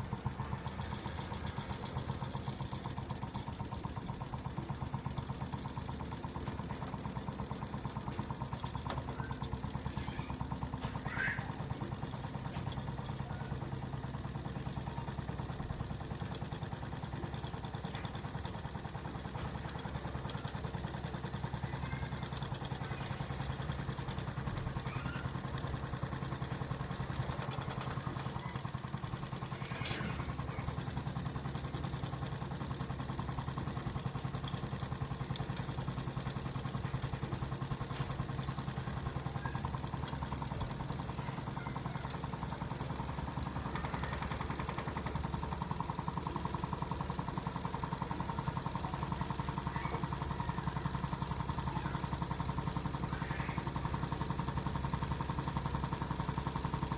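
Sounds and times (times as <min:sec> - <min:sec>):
engine mechanical clatter: 0:00.0 - 0:56.9.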